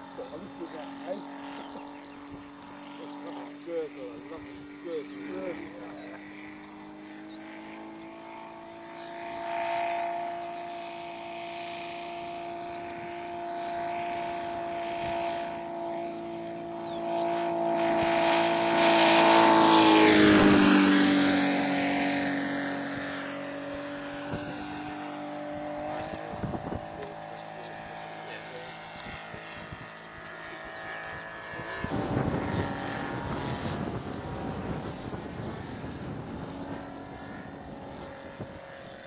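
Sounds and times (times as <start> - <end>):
model airplane engine in flight: 0.0 - 39.0.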